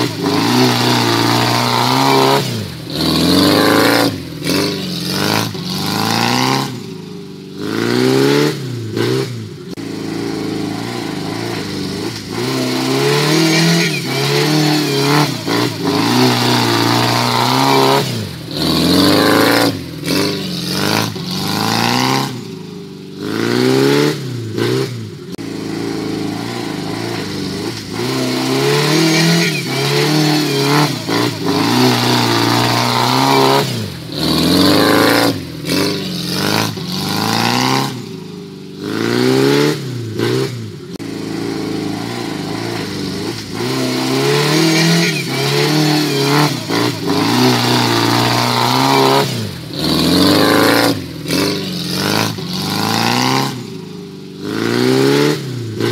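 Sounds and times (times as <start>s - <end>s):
jeep engines revving: 0.0s - 55.9s.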